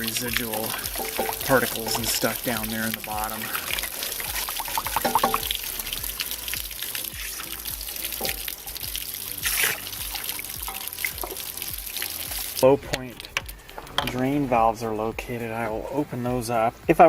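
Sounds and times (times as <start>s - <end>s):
background music: 0.0s - 17.0s
water trickling and splashing: 0.0s - 17.0s.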